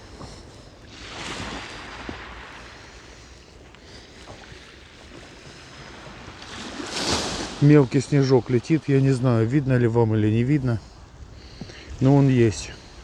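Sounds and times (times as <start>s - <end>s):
small waves washing ashore: 0.0s - 13.0s
wind: 0.0s - 13.0s.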